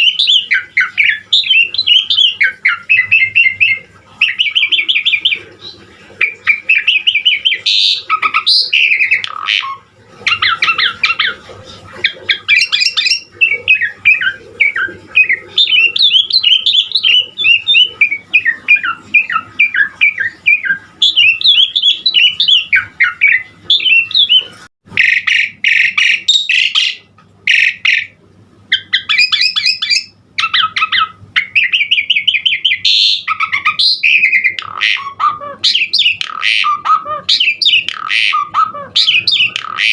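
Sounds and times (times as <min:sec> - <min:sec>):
rapid bird chattering: 0:00.0 - 0:39.9
starling singing: 0:00.0 - 0:39.9.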